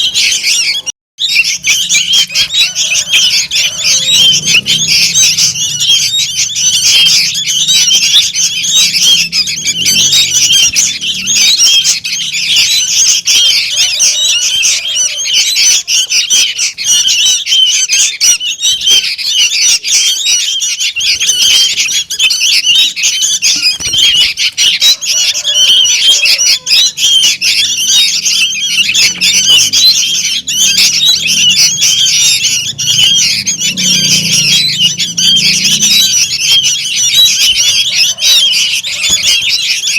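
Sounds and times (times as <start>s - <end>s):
bird chicks chirping and squawking: 0.0s - 39.9s.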